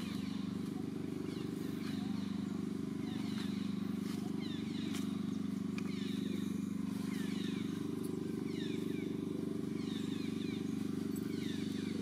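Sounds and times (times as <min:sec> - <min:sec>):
low fluttering drone: 0:00.0 - 0:12.0.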